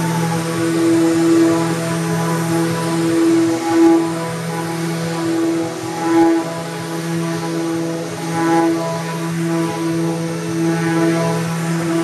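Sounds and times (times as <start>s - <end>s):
slow sustained music chords: 0.0s - 12.0s.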